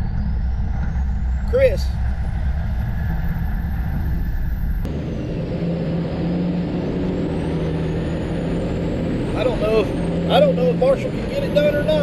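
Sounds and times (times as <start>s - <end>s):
racing truck diesel engines: 0.0s - 12.0s.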